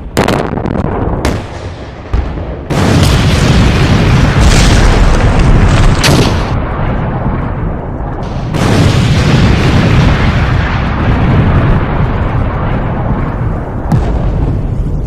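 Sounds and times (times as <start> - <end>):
explosion blasts: 0.0 - 15.0.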